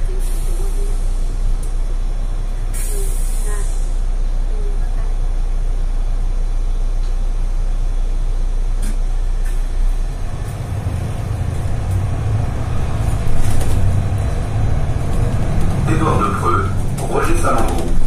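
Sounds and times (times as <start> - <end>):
bus diesel engine: 0.0 - 18.0.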